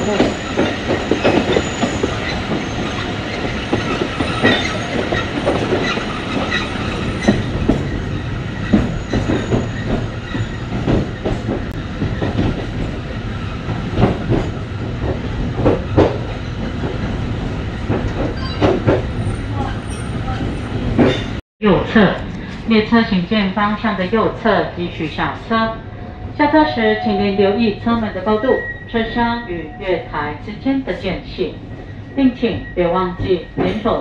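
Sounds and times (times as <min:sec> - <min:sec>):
train low rumble: 0:00.0 - 0:34.0.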